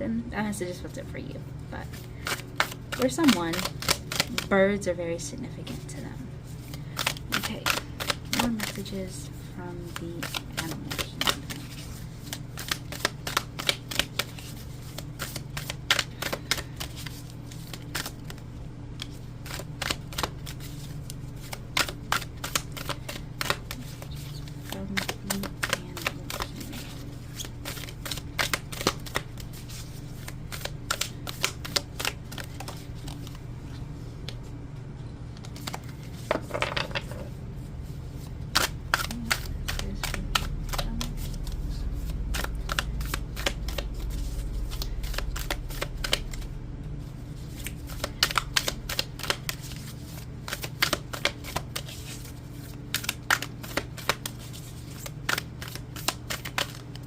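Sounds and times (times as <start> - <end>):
steady low hum: 0.0 - 57.0
playing cards being shuffled: 1.8 - 4.5, 6.5 - 18.4, 19.0 - 34.5, 35.4 - 37.4, 38.0 - 46.5, 47.1 - 57.0.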